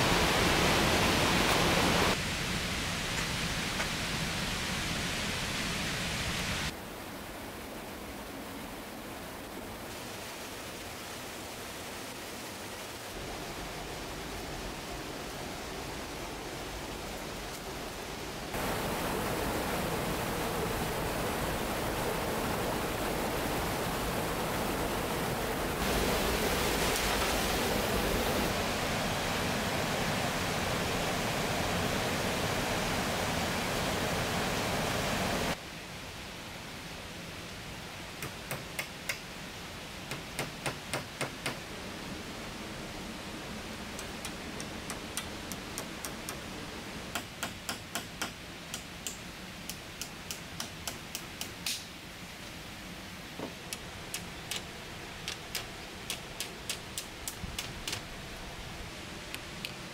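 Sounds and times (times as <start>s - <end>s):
steady rushing hiss: 0.0s - 59.9s.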